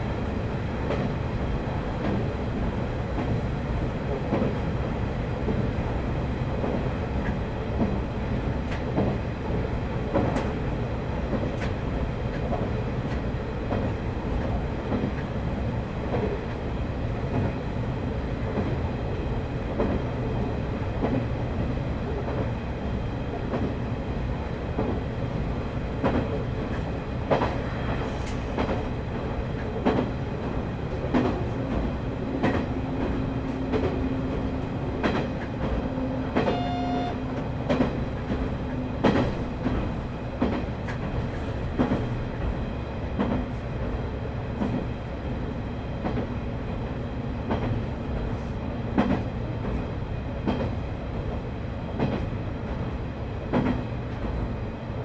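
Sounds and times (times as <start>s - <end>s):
diesel railcar rumbling: 0.0s - 55.0s.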